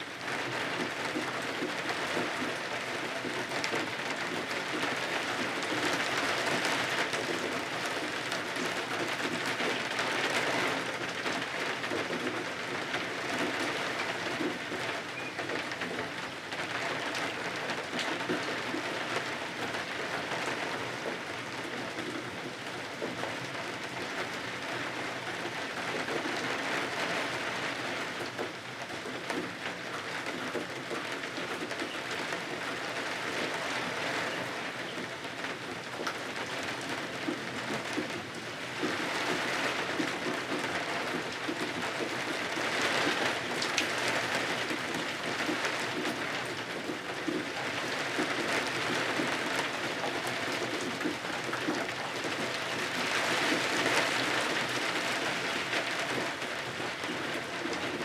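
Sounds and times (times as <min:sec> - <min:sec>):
rain falling against windows: 0:00.0 - 0:58.0.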